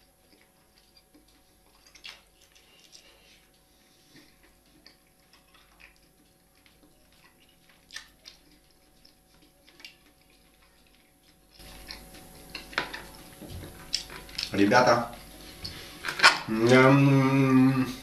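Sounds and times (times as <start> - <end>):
chewing and wet mouth noises: 0.0 - 17.2.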